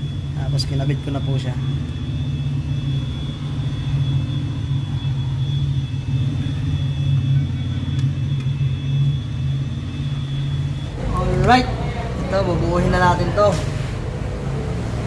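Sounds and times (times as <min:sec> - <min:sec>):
engine rumbling: 0:00.0 - 0:15.0
high whine: 0:00.0 - 0:15.0.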